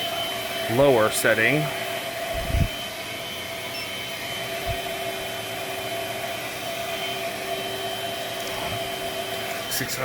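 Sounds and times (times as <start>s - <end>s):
stick vacuum running: 0.0s - 10.0s.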